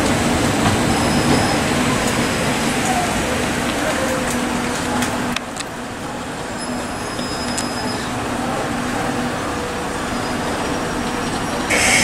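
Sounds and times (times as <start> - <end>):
electric train hum: 0.0 - 7.2, 8.1 - 12.0.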